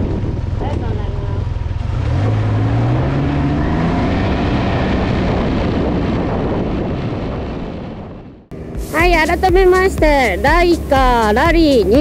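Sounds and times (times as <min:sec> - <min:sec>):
engine exhaust accelerating: 0:00.0 - 0:12.0.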